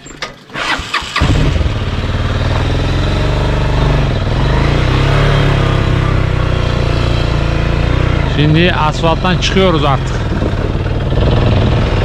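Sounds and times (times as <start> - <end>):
motorcycle engine running: 1.2 - 12.0.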